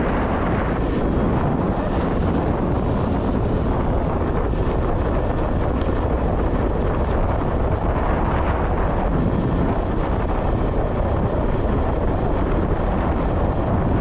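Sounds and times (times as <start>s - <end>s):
low vehicle rumble: 0.0s - 14.0s
wind buffeting microphone: 0.0s - 14.0s.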